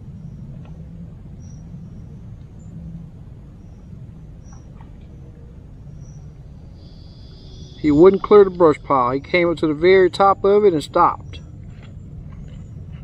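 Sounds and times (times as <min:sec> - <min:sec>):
insects chirping: 0:00.0 - 0:13.0
steady low rumble: 0:00.0 - 0:13.0.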